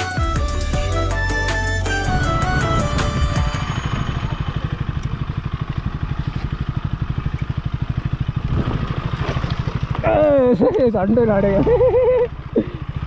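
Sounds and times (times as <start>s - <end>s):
motorcycle engine at low revs: 0.4s - 13.0s.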